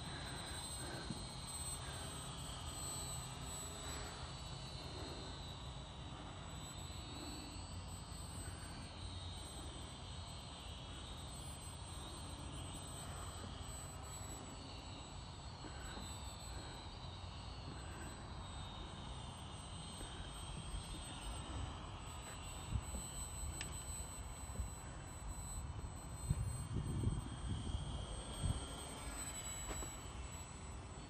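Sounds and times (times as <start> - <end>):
model plane motor whine: 0.0 - 31.0.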